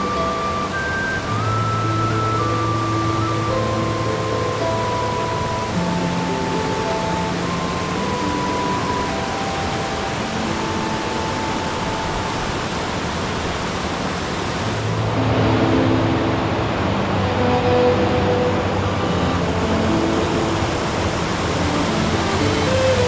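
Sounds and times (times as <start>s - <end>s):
relaxing music: 0.0s - 23.0s
waterfall rushing: 0.0s - 23.0s.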